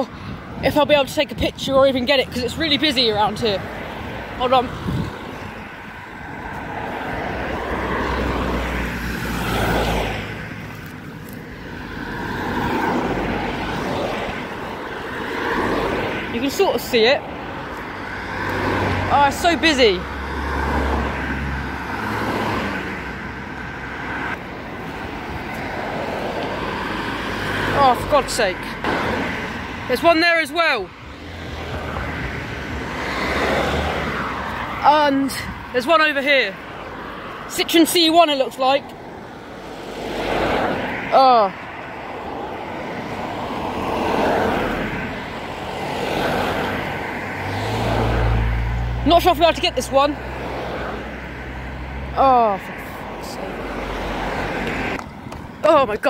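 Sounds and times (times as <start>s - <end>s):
cars passing on busy road: 0.0s - 56.0s.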